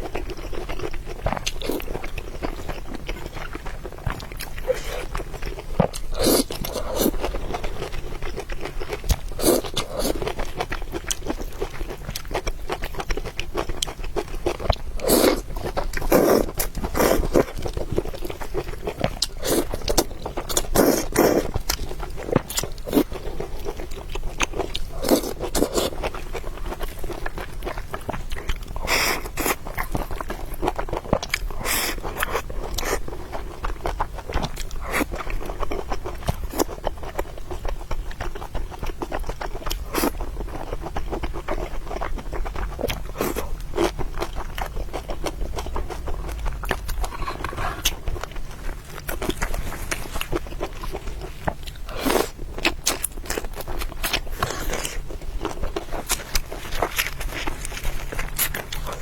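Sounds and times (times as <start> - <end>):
chewing and biting: 0.0 - 59.0.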